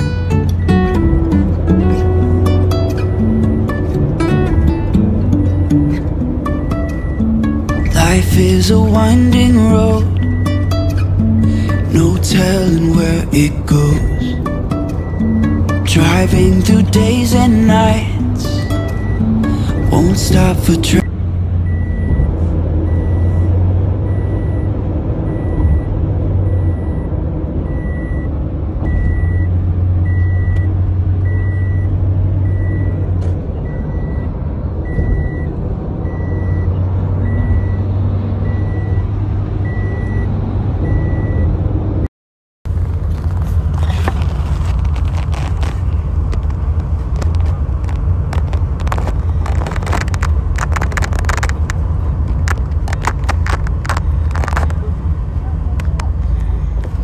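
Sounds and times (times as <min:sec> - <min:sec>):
car road noise rumble: 0:00.0 - 0:42.1, 0:42.7 - 0:57.0.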